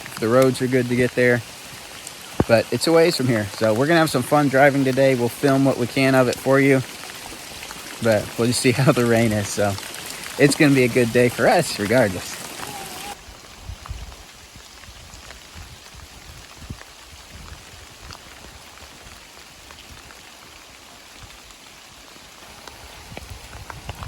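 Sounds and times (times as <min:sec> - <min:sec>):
light steady rain: 0:00.0 - 0:24.0
raindrops ticking on surfaces: 0:00.0 - 0:24.0.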